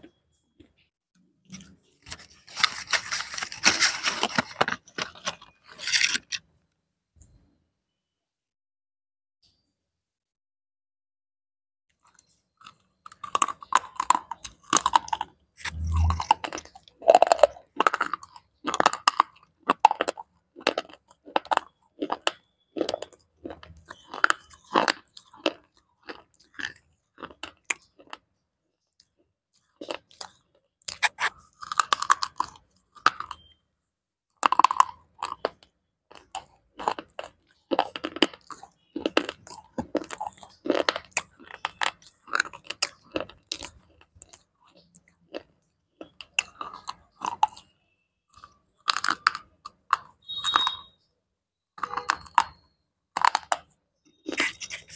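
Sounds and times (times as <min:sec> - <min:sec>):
slate pencils crunching when chewed: 0:01.5 - 0:06.4, 0:12.0 - 0:28.2, 0:29.0 - 0:33.6, 0:34.4 - 0:47.7, 0:48.3 - 0:50.9, 0:51.8 - 0:54.9.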